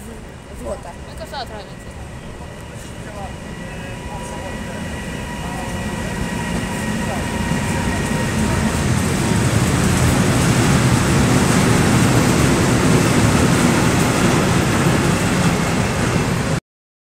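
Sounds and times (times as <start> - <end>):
freight train wheels rumbling: 0.0 - 16.6.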